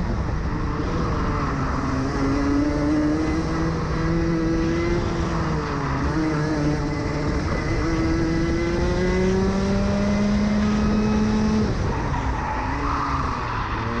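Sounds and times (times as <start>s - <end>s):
kart engine accelerating: 0.0s - 14.0s.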